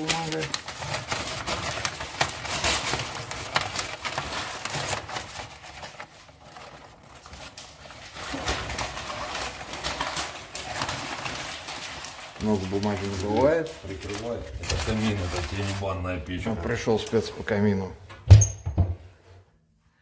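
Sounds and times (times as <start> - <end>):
paper crumpling: 0.0 - 17.8.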